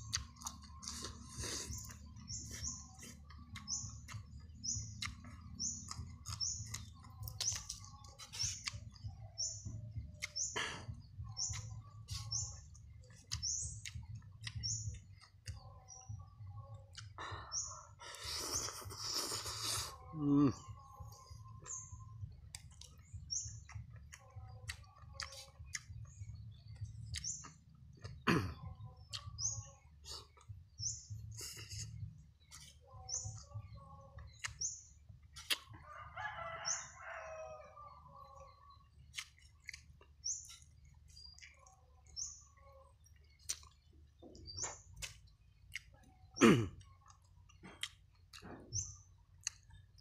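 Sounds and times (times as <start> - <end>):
chewing and lip smacks: 0.0 - 17.3, 21.0 - 35.8, 38.4 - 42.2, 42.8 - 50.0
small bird chirping: 0.0 - 50.0.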